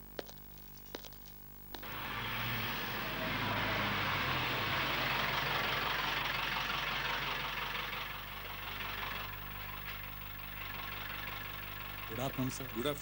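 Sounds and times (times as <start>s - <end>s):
car engine running: 1.7s - 13.0s.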